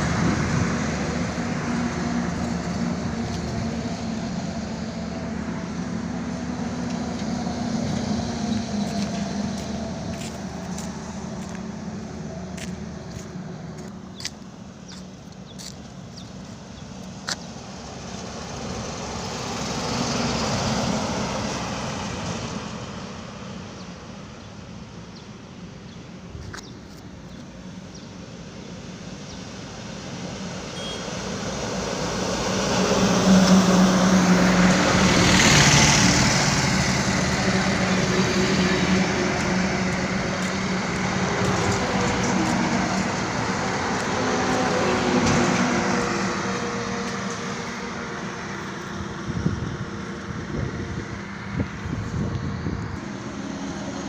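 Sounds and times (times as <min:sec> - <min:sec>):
heavy vehicle engine drone: 0:00.0 - 0:26.4, 0:27.0 - 0:54.0
highway traffic passing: 0:00.0 - 0:54.0.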